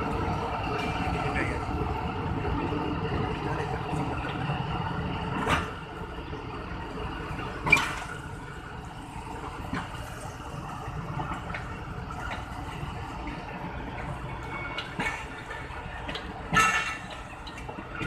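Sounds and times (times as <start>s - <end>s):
locomotive idling: 0.0s - 18.0s.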